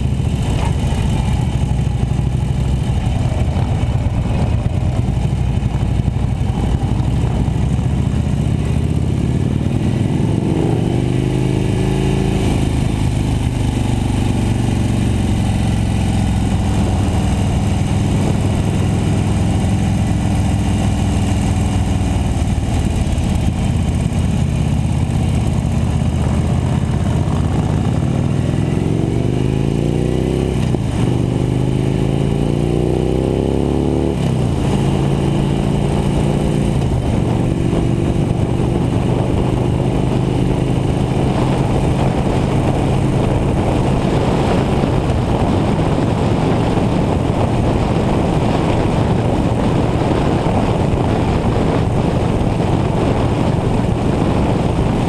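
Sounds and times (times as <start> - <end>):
motorcycle engine accelerating: 0.0 - 55.0
wind and road rumble: 0.0 - 55.0.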